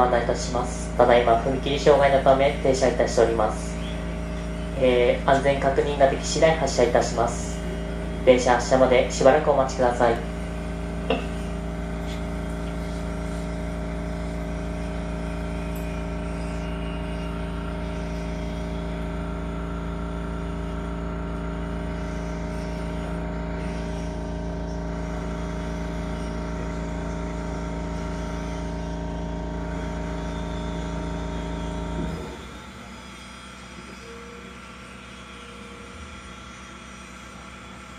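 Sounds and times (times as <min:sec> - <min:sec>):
low machine hum: 0:00.0 - 0:37.9.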